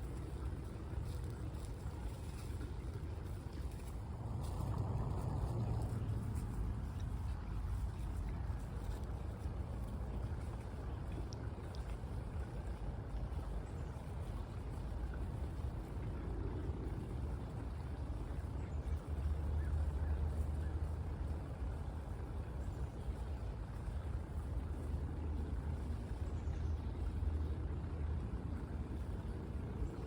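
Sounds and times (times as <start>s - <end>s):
low rumbling outdoor noise: 0.0s - 30.0s.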